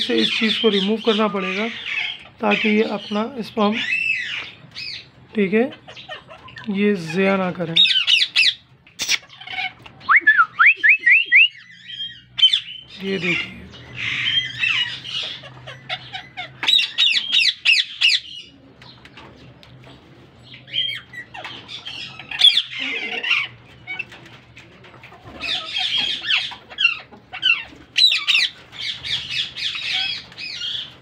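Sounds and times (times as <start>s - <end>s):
parakeets squawking: 0.0s - 10.1s, 10.8s - 18.7s, 20.4s - 31.0s.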